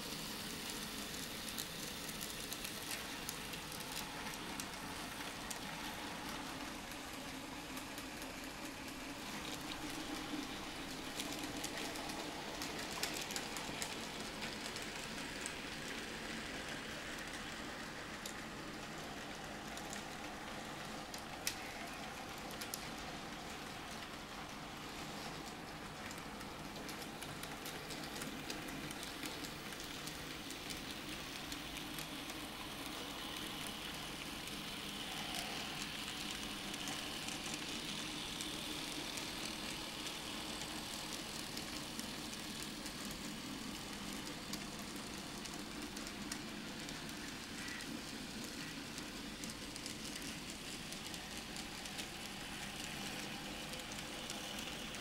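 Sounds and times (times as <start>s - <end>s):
model trains running on track: 0.0s - 55.0s.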